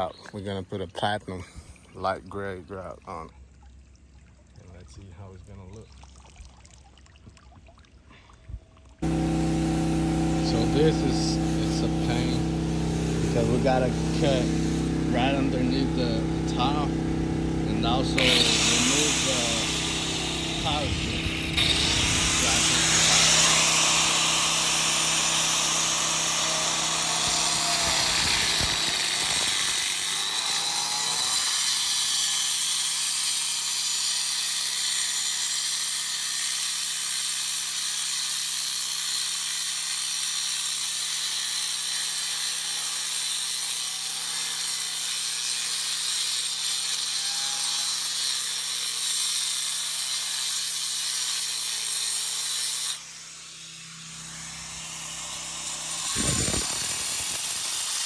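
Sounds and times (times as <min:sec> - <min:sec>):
power tool grinding tile: 0:09.0 - 0:58.0.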